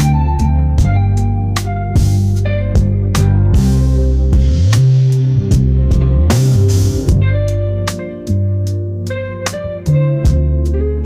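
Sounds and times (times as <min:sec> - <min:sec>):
guitar: 0:00.0 - 0:11.0
sustained bass notes: 0:00.0 - 0:11.0.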